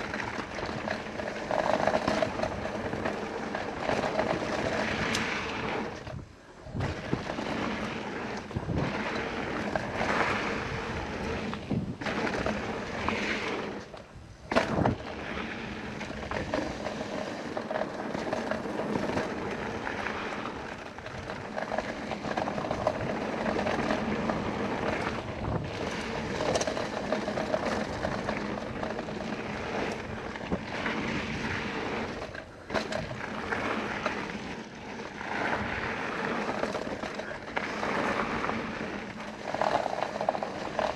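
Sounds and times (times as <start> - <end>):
bike tyre and wind noise: 0.0 - 40.9.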